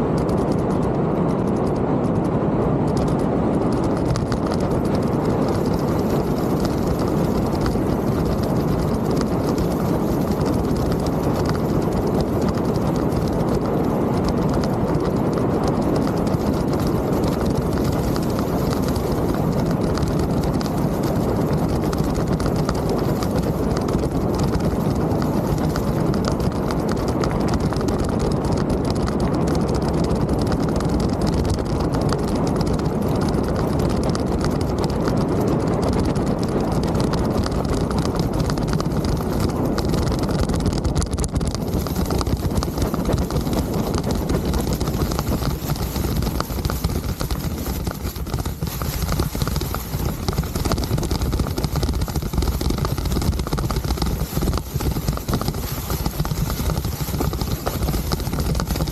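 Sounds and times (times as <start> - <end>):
bike rattling and clattering: 0.0 - 2.3, 2.9 - 58.9
bike tyre rumble on trail: 0.0 - 58.9.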